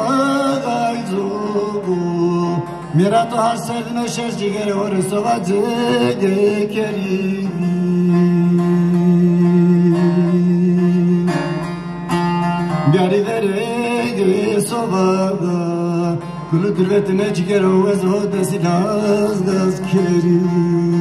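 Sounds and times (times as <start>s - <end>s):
long-necked lute plucking melody: 0.0s - 21.0s.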